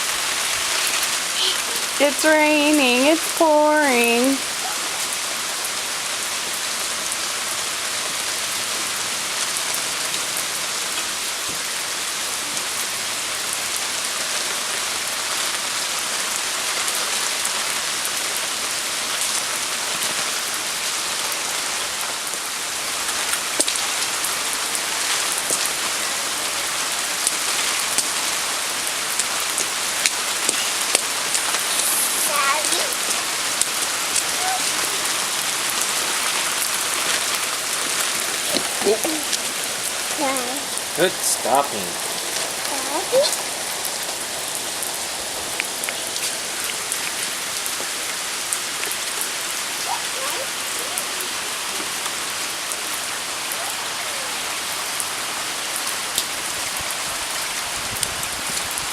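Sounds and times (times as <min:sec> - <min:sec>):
raindrops ticking close by: 0:00.0 - 0:58.9
steady pouring rain: 0:00.0 - 0:58.9.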